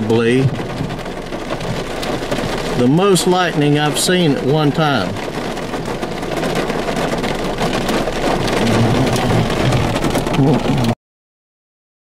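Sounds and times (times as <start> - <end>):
heavy rain on car windshield: 0.0 - 11.0.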